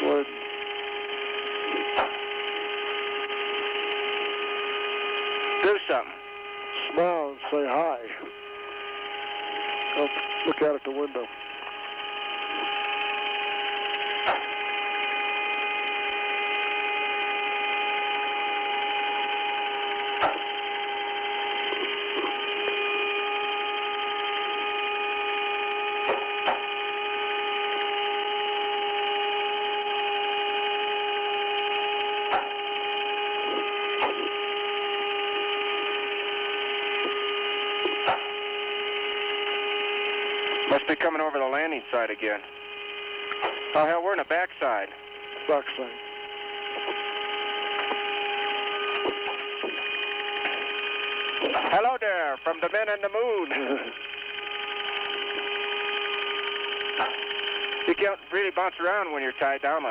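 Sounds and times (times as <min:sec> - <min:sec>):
intercom hum and hiss: 0:00.0 - 0:59.9
steady mid-pitched tone: 0:00.0 - 0:59.9.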